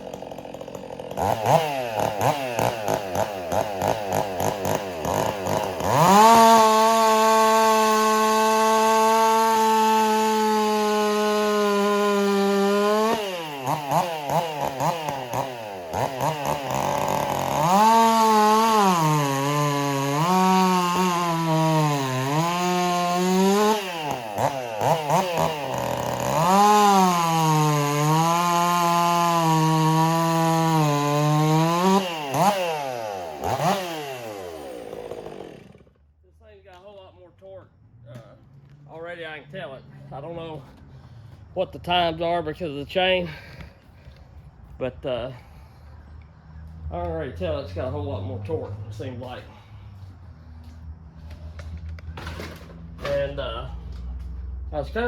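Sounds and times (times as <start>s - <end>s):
chainsaw revving and cutting wood: 0.0s - 36.2s, 46.6s - 55.0s.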